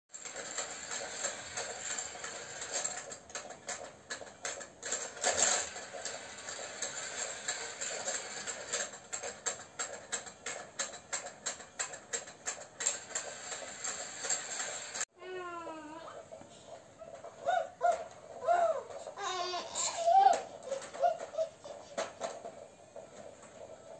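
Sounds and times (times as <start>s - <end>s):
toy motor hum: 0.2s - 15.1s, 17.0s - 23.9s.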